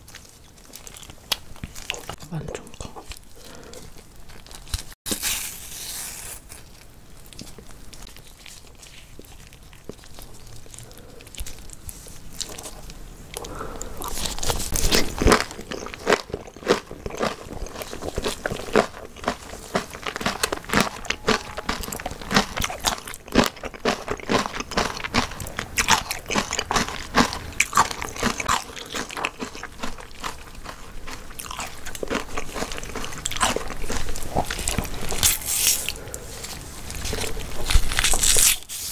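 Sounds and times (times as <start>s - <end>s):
crunching and chewing kimchi: 0.0s - 38.9s.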